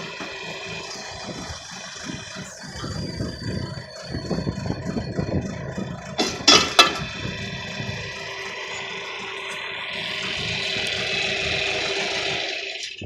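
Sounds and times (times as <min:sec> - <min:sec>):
backhoe engine idling: 0:00.0 - 0:13.0
loud noisy bursts: 0:00.0 - 0:13.0.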